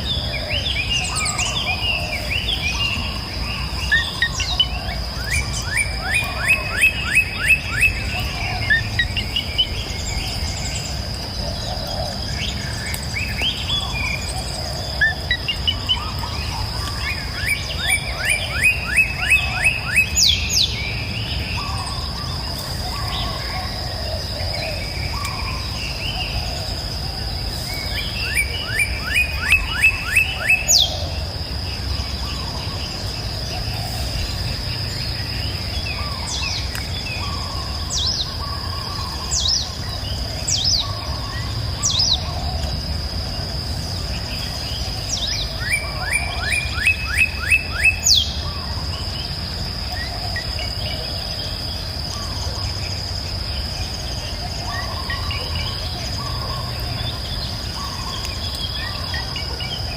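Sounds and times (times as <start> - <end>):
insect drone: 0.0 - 59.9
songbirds singing: 0.0 - 59.9.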